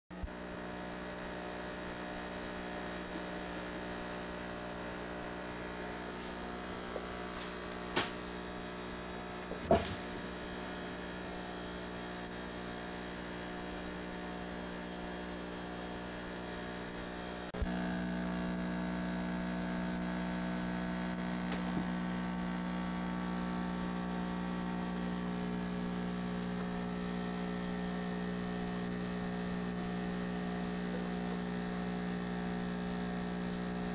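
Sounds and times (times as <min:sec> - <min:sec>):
electrical hum: 0:00.1 - 0:33.9.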